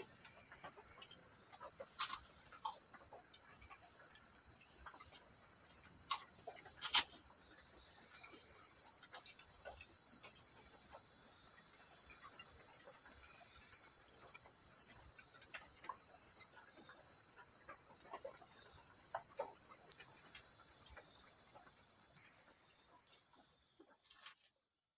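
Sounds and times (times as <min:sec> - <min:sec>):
crickets chirping drone: 0:00.0 - 0:24.9.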